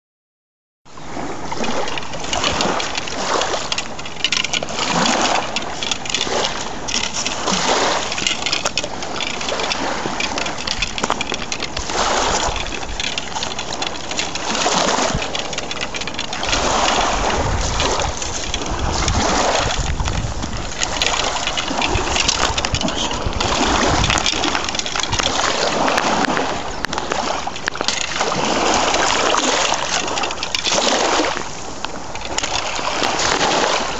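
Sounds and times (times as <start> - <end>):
sea water washing over sand: 1.0 - 33.9.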